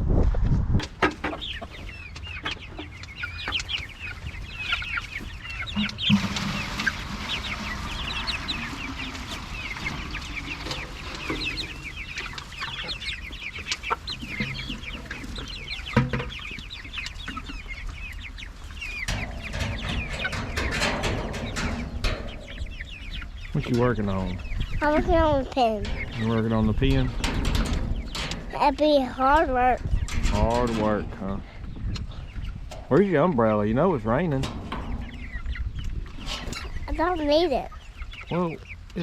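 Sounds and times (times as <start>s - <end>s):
chickens clucking and peeping: 0.0s - 39.0s.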